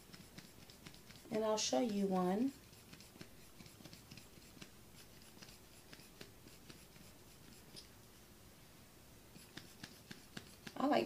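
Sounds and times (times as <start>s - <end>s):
light scratching: 0.0s - 8.3s, 9.3s - 11.0s.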